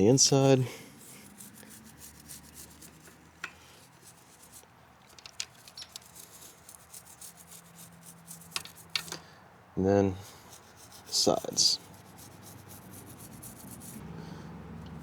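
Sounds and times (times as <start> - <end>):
toothbrush scrubbing chain: 0.0 - 9.2, 10.2 - 14.0.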